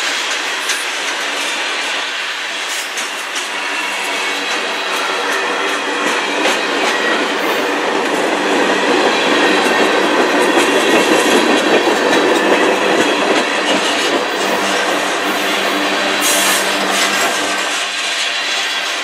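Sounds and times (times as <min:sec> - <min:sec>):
train wheels rolling on rail: 0:00.0 - 0:19.0
wheels clickety-clack on rail joints: 0:00.0 - 0:19.0.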